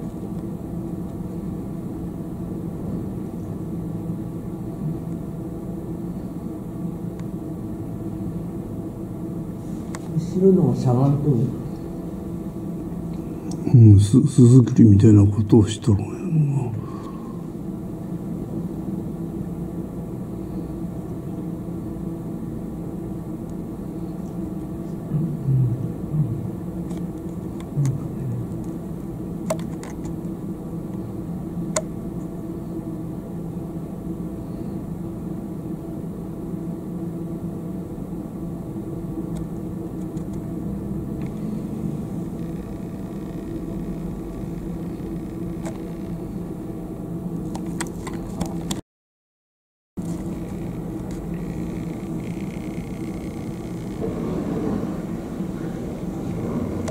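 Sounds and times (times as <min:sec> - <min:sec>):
low mechanical hum: 0:00.0 - 0:48.8, 0:50.0 - 0:56.9.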